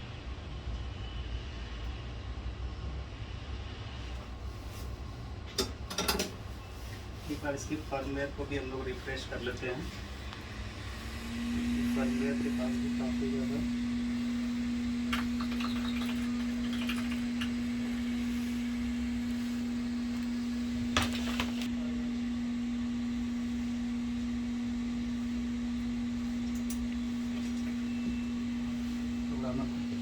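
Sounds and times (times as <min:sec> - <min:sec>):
steady low hum: 0:01.7 - 0:30.0.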